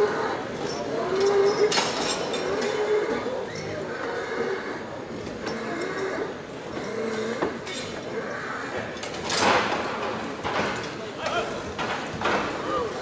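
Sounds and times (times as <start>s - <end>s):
crowd chatter: 0.0s - 13.0s.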